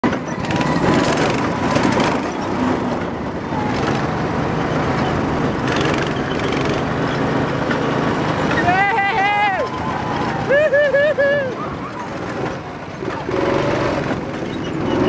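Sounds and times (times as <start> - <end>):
go-kart engines running: 0.0 - 15.0.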